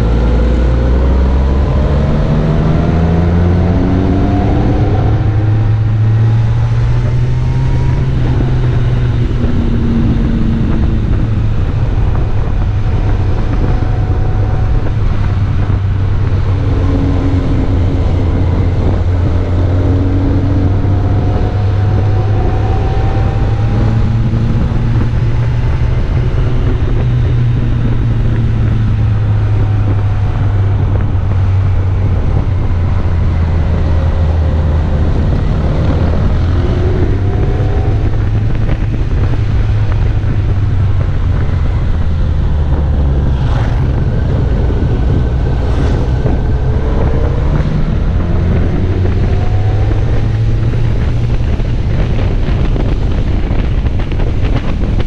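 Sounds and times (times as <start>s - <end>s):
wind and road noise: 0.0s - 55.0s
motorcycle engine running: 3.2s - 55.0s.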